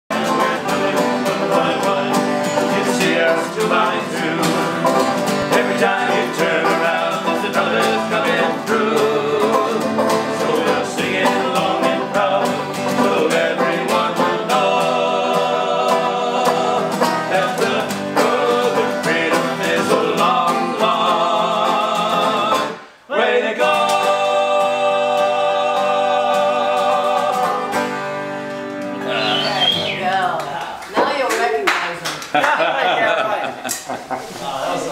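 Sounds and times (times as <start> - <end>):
person singing: 0.1 - 28.1
banjo: 0.1 - 29.3
acoustic guitars: 0.1 - 31.6.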